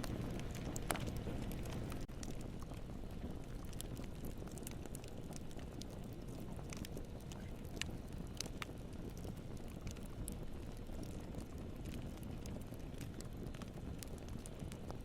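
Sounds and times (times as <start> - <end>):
fire flames rumbling: 0.0 - 15.0
wood crackling and popping: 0.0 - 15.0.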